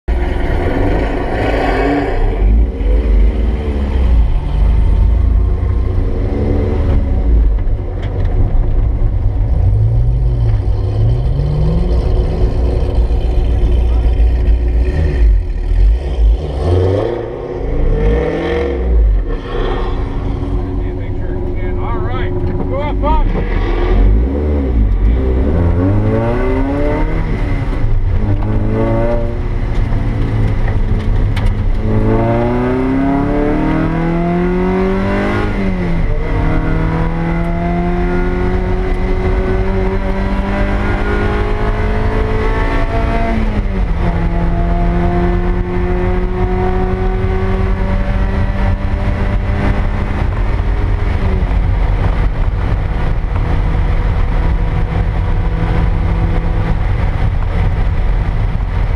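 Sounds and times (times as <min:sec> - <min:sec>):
road noise: 0:00.0 - 0:58.9
car engine accelerating: 0:00.1 - 0:58.9.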